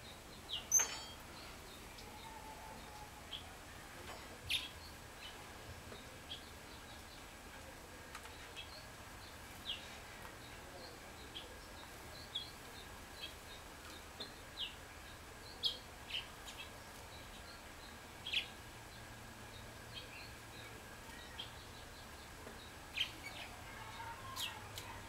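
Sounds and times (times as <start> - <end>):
faint hiss: 0.0 - 25.0
songbirds chirping: 0.0 - 25.0.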